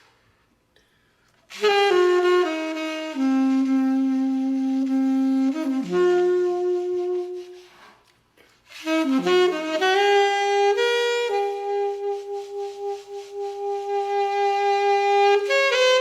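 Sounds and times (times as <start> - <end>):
saxophone playing long notes: 1.5 - 7.8, 8.7 - 16.0.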